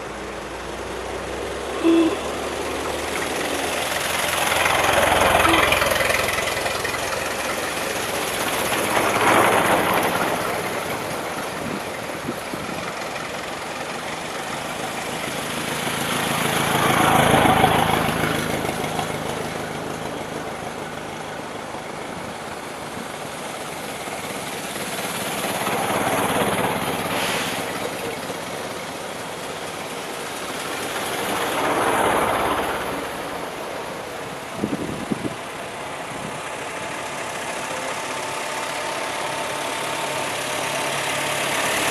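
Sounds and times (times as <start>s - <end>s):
cars driving past: 0.0s - 41.9s.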